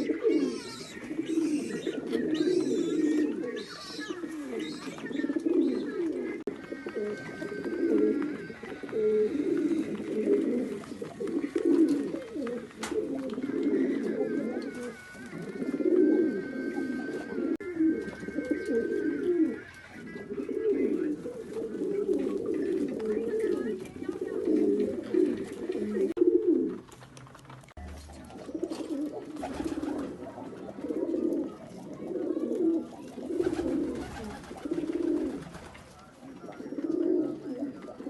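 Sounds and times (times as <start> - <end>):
pigeons cooing: 0.0 - 26.9, 27.8 - 38.0.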